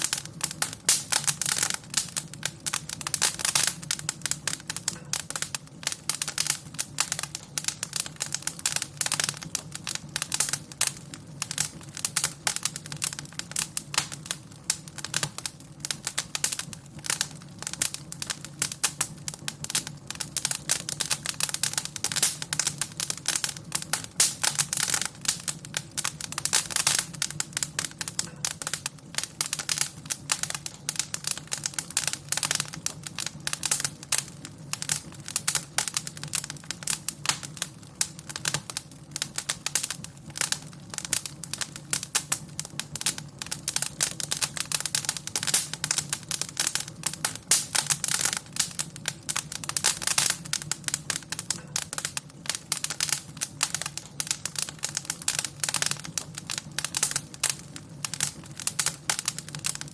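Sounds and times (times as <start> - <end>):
low rumble of fire: 0.0 - 59.9
wood fire popping and snapping: 0.0 - 59.9.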